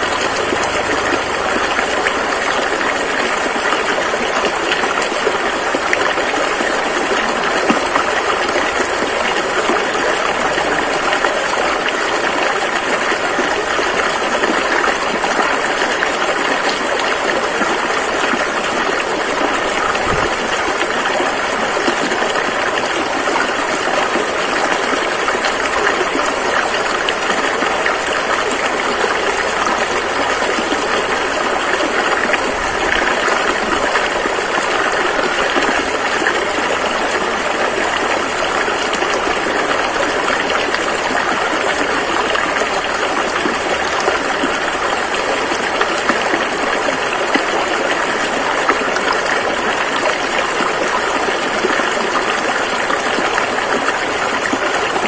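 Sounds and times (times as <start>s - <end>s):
rushing river rapids: 0.0s - 55.0s.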